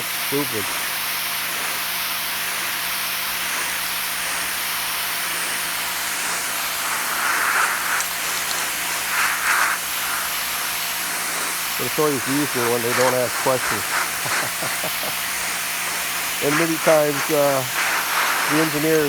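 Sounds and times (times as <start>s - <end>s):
pressure washer spraying: 0.0s - 19.0s.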